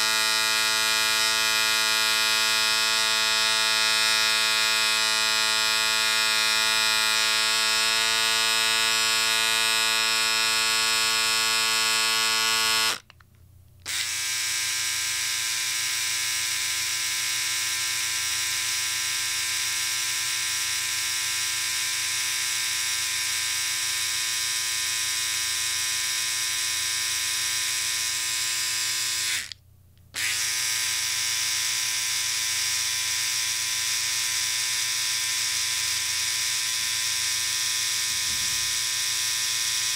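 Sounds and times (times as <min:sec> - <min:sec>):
electric shaver buzzing: 0:00.0 - 0:13.1, 0:13.9 - 0:29.6, 0:30.2 - 0:39.9.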